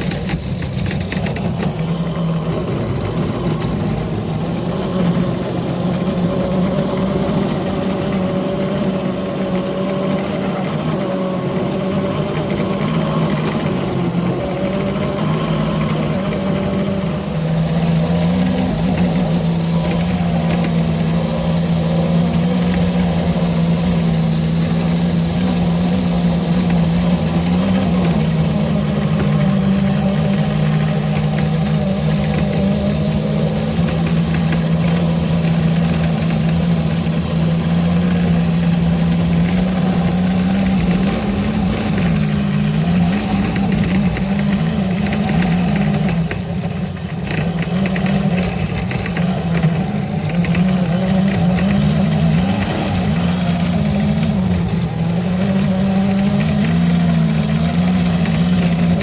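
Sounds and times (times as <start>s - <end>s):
small engine humming: 0.0s - 59.0s.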